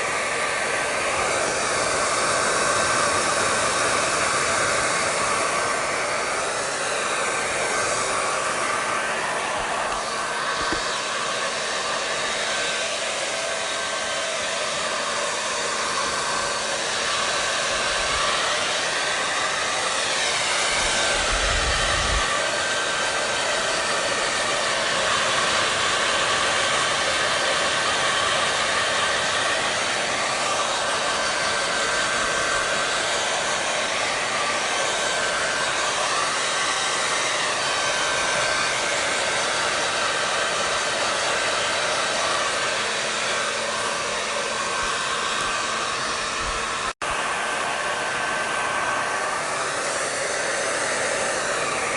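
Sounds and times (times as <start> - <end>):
hair dryer blowing air: 0.0 - 51.9.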